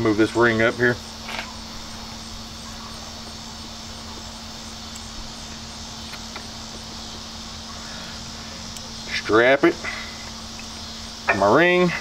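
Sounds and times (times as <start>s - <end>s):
crickets chirping: 0.0s - 12.0s
low constant hum: 0.0s - 12.0s.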